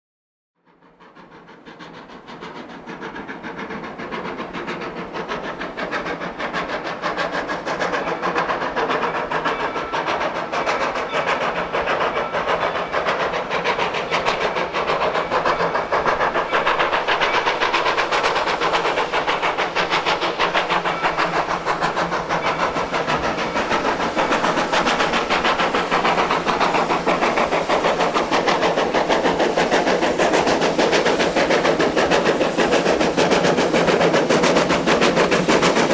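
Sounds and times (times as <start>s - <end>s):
steam locomotive exhaust chuffs: 0.6s - 35.9s.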